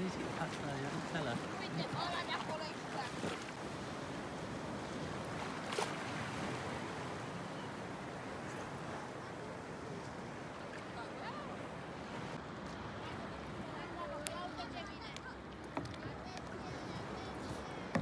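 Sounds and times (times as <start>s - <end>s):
seawater lapping around wading: 0.0s - 18.0s.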